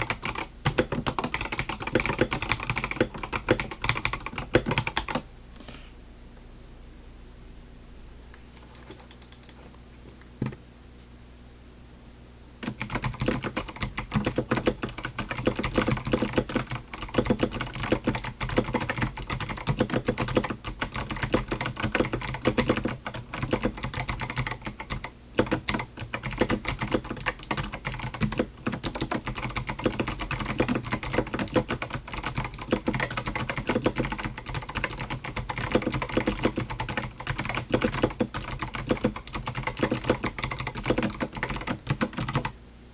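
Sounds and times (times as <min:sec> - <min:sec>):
clicky mechanical keyboard typing: 0:00.0 - 0:05.2, 0:08.7 - 0:09.6, 0:12.6 - 0:42.6.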